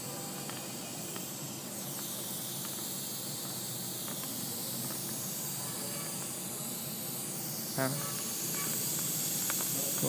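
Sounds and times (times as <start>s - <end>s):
dental suction hissing: 0.0s - 10.0s.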